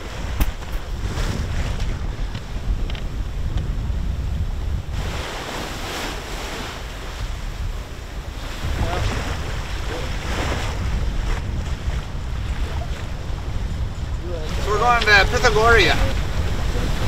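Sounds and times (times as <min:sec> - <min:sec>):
waves washing past hull: 0:00.0 - 0:17.0
wind buffeting microphone: 0:00.0 - 0:17.0.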